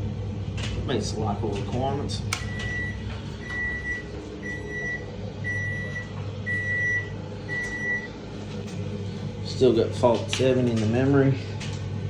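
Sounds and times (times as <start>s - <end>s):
steady low hum: 0.0s - 12.0s
washing machine beeping: 0.0s - 12.0s.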